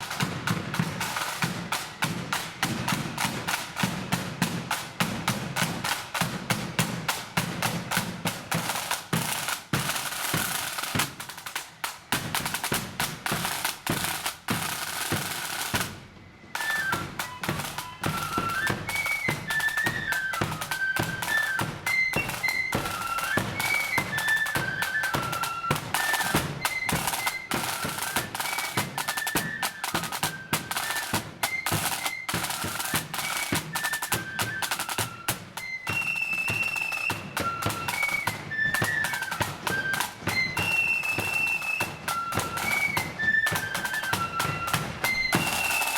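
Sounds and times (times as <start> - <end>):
flute melody: 0.0 - 45.9
snare and bass drums: 0.0 - 45.9.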